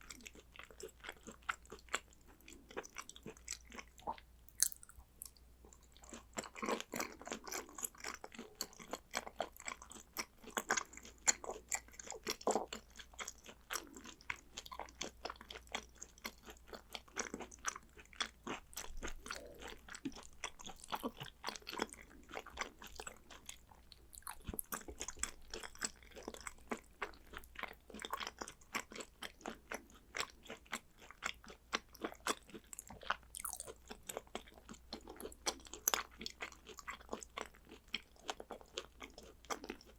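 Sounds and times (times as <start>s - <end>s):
chewing and mouth sounds: 0.0s - 39.9s.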